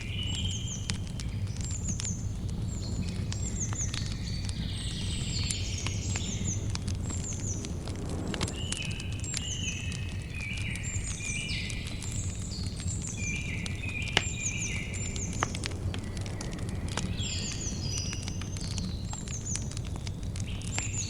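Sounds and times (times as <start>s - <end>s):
birds singing: 0.0s - 7.8s, 8.4s - 21.0s
campfire crackling and popping: 0.0s - 21.0s.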